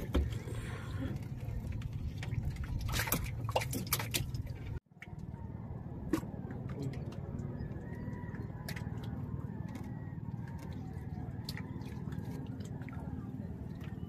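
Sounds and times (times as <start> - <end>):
wet splashes and drips: 0.0 - 5.3, 6.0 - 14.0.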